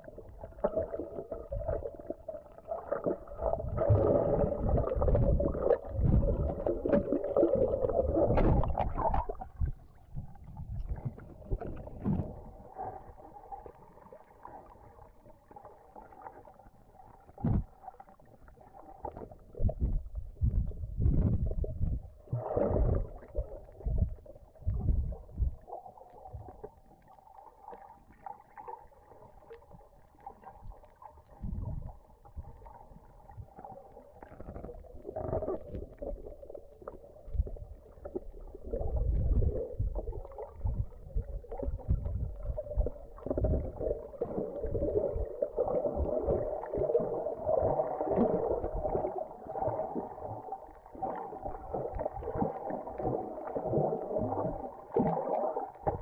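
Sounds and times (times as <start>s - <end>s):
underwater rumbles and sloshes: 0.0s - 56.0s.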